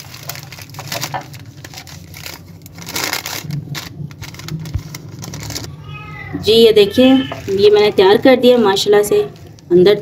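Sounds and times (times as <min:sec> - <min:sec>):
paper wrapper rustling and crinkling: 0:00.0 - 0:06.0, 0:06.8 - 0:09.7.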